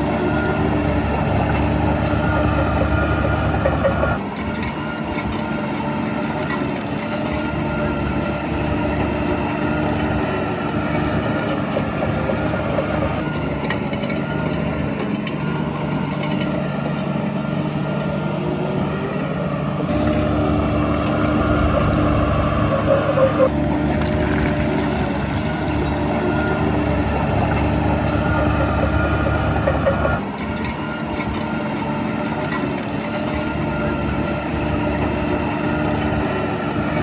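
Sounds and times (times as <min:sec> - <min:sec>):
heavy diesel engine rumbling: 0:00.0 - 0:37.0.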